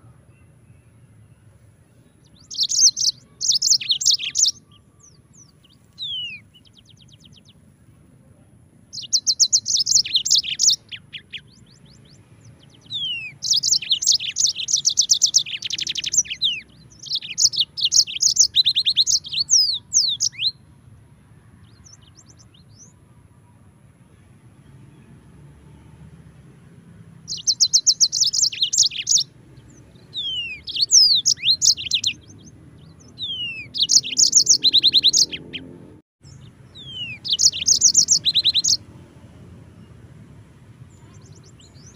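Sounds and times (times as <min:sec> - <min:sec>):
canary singing trills: 0:00.0 - 0:07.8, 0:08.8 - 0:20.7, 0:21.6 - 0:23.6, 0:27.2 - 0:38.9, 0:40.8 - 0:41.9.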